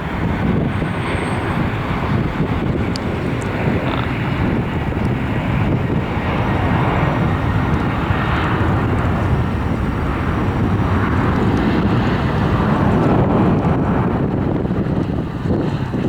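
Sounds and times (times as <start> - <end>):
jet airliner engines roaring: 0.0 - 16.0.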